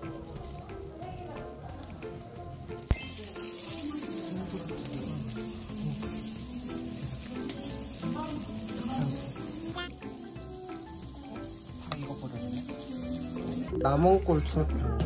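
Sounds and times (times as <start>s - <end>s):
stew boiling and sizzling in a pot: 0.0s - 13.7s
light background music: 0.0s - 15.0s.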